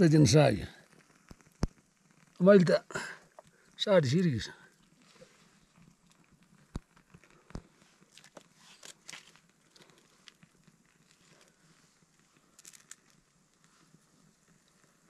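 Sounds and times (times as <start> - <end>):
kindling fire crackling: 0.0 - 15.0.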